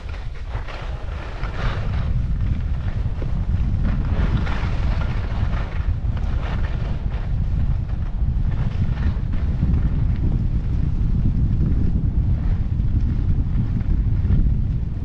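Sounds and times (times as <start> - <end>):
skis scraping across snow: 0.0 - 14.9
wind rumbling on microphone: 0.0 - 15.0.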